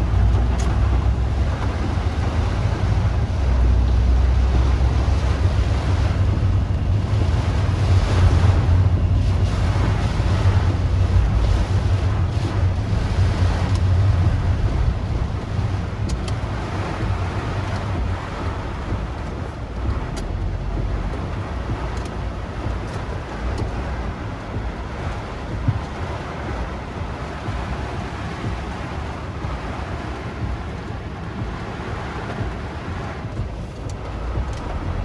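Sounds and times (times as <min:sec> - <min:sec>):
heavy rain: 0:00.0 - 0:35.0
wind buffeting microphone: 0:00.0 - 0:35.0.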